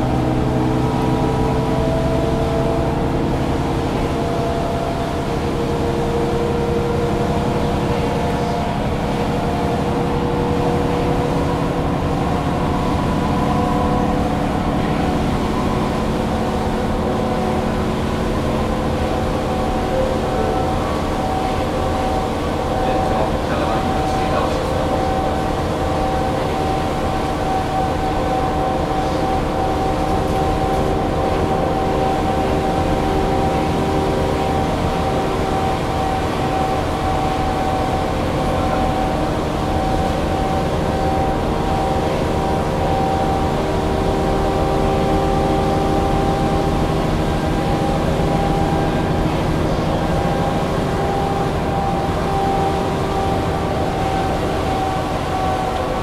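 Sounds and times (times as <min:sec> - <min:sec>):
bus rumble: 0:00.0 - 0:56.0
drivetrain whine: 0:00.0 - 0:56.0.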